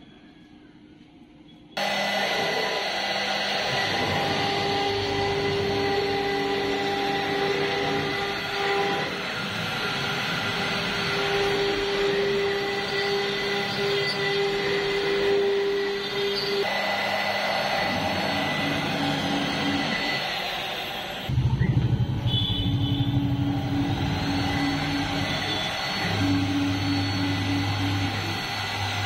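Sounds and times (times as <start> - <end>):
router spindle whine cutting wood: 1.8 - 21.4, 22.2 - 29.0.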